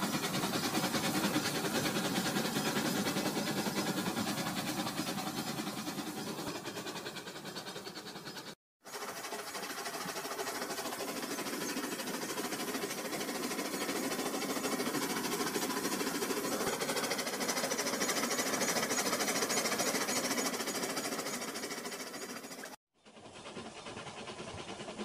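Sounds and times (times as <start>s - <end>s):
toy train motor whirring: 0.0s - 25.0s.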